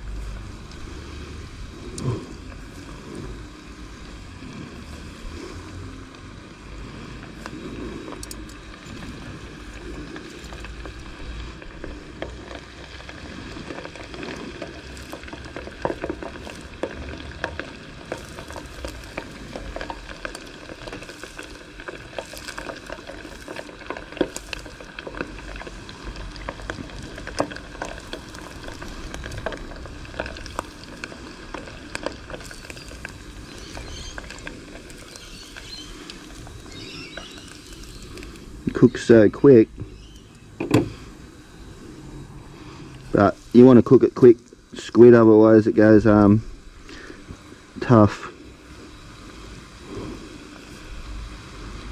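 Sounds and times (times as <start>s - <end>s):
food deep-frying in oil: 0.0s - 51.9s.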